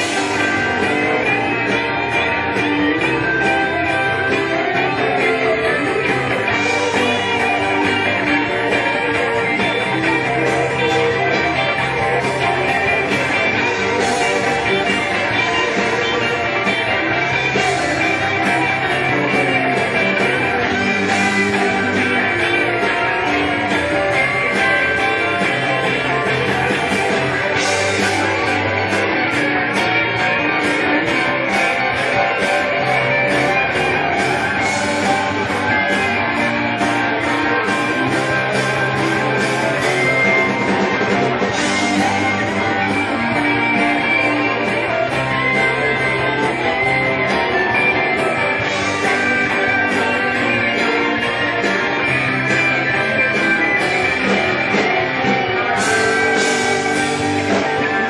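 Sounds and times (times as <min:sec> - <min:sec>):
bass: 0:00.0 - 0:58.0
drums: 0:00.0 - 0:58.0
electric guitars: 0:00.0 - 0:58.0.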